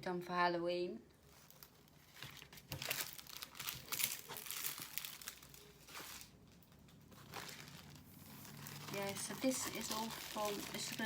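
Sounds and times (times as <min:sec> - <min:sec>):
plastic packaging crinkling: 0:01.2 - 0:11.0.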